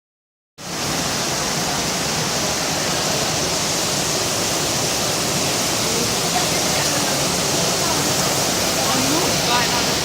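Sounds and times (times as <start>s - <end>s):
rain falling steadily: 0.6s - 10.0s.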